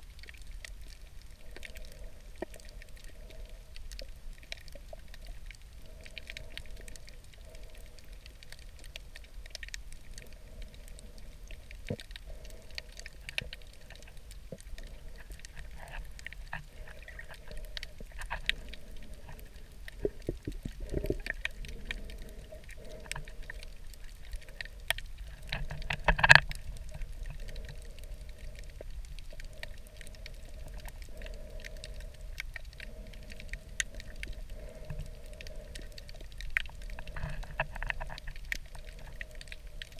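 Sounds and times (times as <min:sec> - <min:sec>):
hum: 0:00.0 - 0:39.9
sharp clicks and crackles: 0:00.0 - 0:39.9
underwater low rumble: 0:00.0 - 0:39.9.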